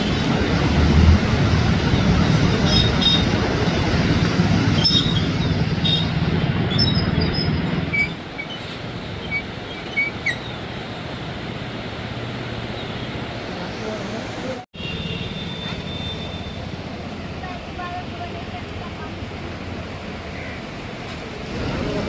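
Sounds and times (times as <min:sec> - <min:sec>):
river water rushing: 0:00.0 - 0:14.7, 0:15.3 - 0:22.0.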